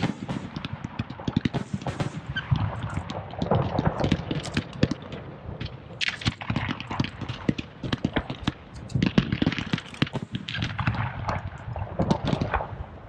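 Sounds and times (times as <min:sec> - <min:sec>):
fireworks popping and banging: 0:00.0 - 0:13.0.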